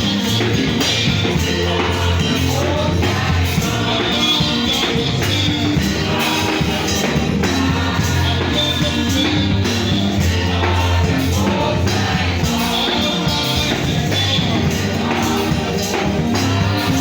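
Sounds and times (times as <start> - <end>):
band with loud bass and percussion: 0.0 - 17.0
people singing praise music: 0.0 - 17.0.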